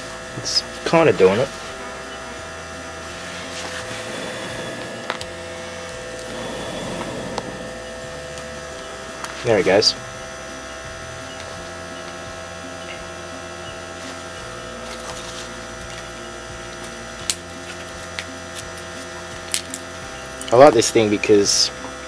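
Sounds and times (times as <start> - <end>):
stove fan humming: 0.0 - 22.0.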